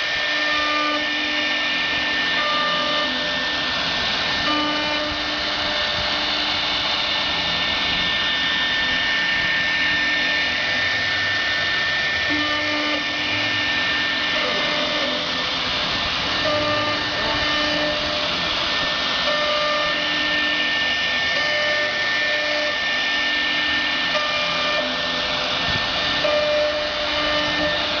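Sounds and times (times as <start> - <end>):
cnc router spindle whine: 0.0 - 28.0
stepper motor tones: 0.0 - 28.0.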